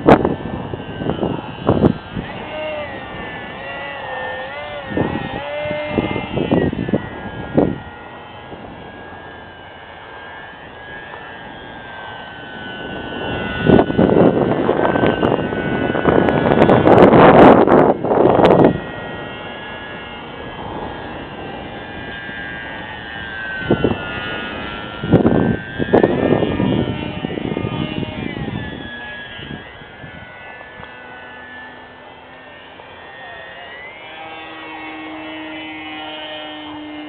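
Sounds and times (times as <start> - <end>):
wind gusts on microphone: 0.0 - 32.0
model airplane motor whining: 0.0 - 37.0.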